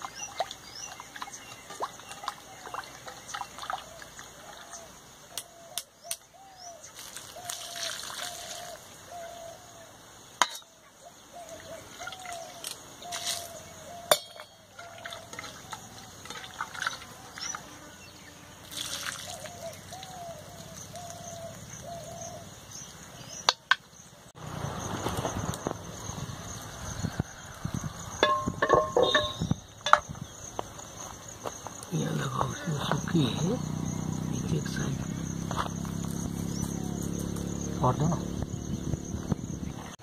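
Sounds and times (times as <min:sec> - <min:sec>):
bird calling in arched notes: 0:00.0 - 0:10.0, 0:10.6 - 0:24.0, 0:25.7 - 0:30.6, 0:32.0 - 0:40.0
rustle: 0:00.0 - 0:33.4, 0:34.4 - 0:40.0.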